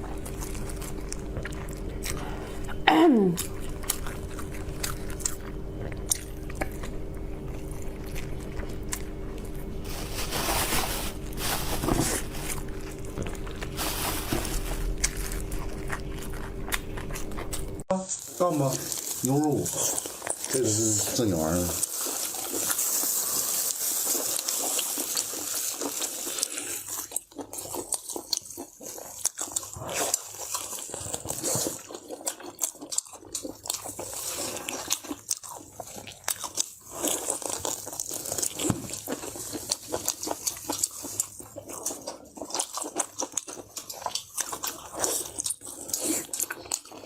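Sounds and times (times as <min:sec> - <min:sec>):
beef being bitten and chewed: 0:00.0 - 0:02.8, 0:03.4 - 0:47.0.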